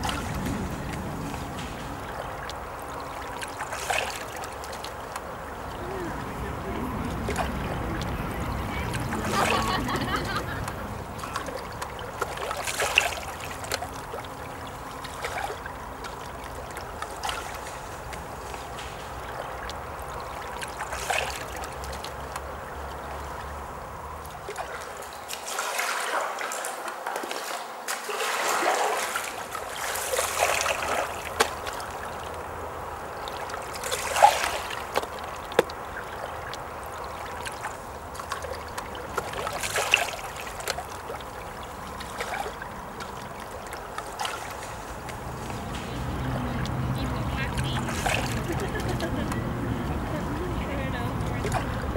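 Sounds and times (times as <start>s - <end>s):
water trickling and lapping: 0.0s - 51.9s
watery surges: 0.0s - 51.9s.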